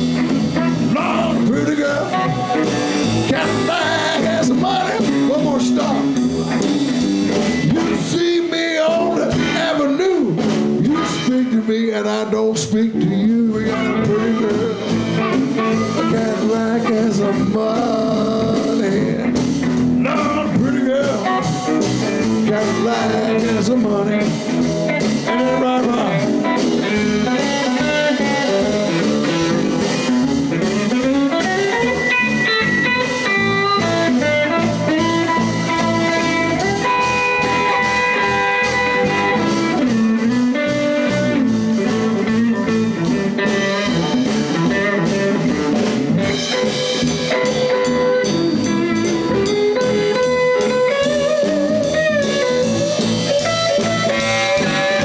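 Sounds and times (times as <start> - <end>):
electric guitar: 0.0 - 55.0
live blues band playing: 0.0 - 55.0.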